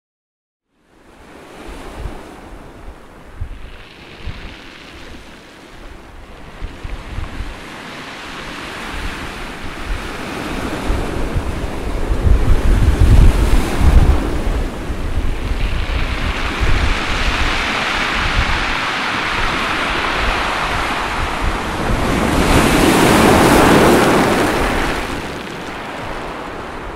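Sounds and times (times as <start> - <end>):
surf on pebble beach: 1.0 - 26.9
wind gusting on microphone: 1.1 - 26.9.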